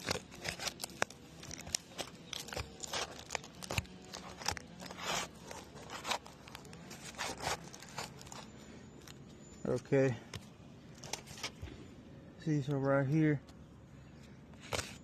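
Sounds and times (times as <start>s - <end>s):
shingle crunching and scraping: 0.0s - 11.8s, 14.5s - 15.0s.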